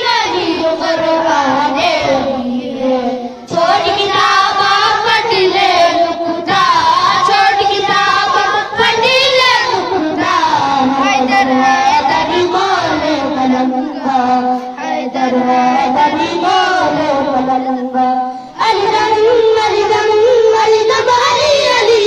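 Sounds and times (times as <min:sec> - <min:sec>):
child singing: 0:00.0 - 0:22.0.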